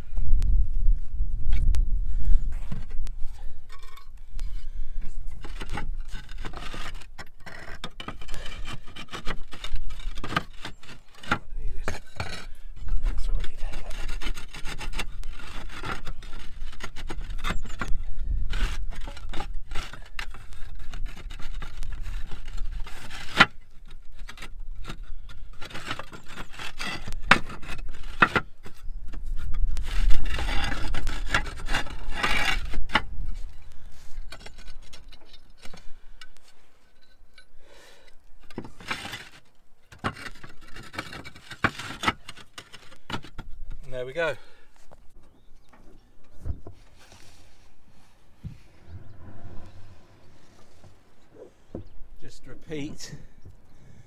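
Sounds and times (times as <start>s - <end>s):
roof tiles scraping and clicking: 2.6s - 48.1s.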